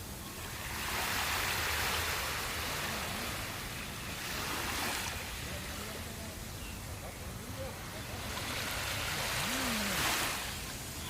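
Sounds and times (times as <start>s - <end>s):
sea waves on sandy beach: 0.0s - 11.0s.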